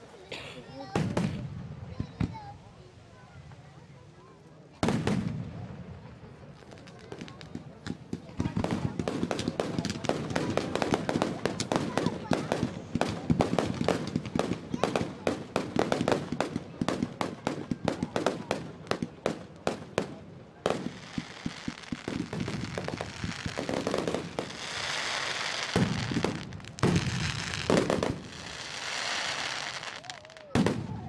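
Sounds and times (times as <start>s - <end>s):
rapid sharp firework bangs: 0.8s - 2.5s, 4.8s - 5.8s, 6.7s - 31.0s
heavy firework booms: 0.9s - 2.5s, 4.8s - 6.1s, 7.1s - 31.0s.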